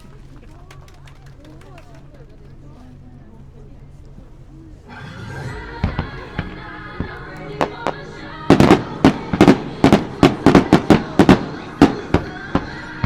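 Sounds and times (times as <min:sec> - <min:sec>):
fireworks bangs: 0:00.0 - 0:13.0
music: 0:00.0 - 0:13.0.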